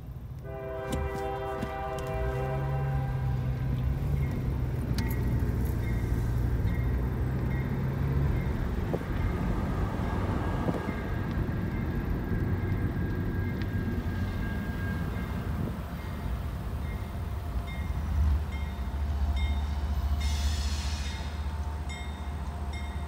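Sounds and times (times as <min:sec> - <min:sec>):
car engine and tyre noise: 0:00.0 - 0:23.0.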